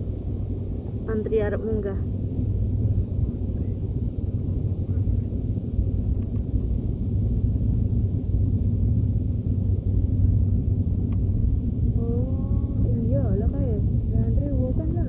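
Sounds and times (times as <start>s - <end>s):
jet engines at low power: 0.0s - 15.0s.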